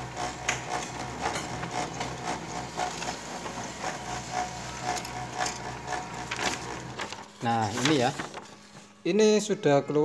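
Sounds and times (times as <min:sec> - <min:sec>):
copier whirring: 0:00.0 - 0:09.4.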